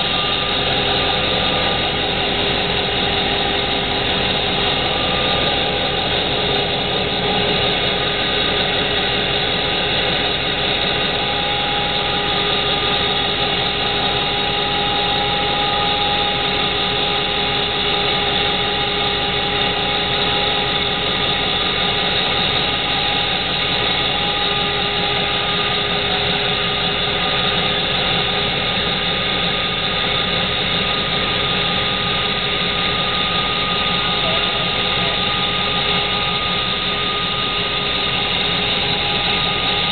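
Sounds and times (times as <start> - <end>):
constant tones: 0.0 - 39.9
diesel engine running loud: 0.0 - 39.9.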